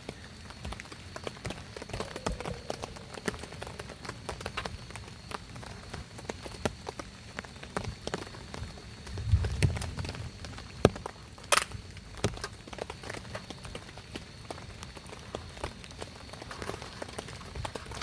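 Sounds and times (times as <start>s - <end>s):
raindrops tapping on a surface: 0.0s - 18.0s.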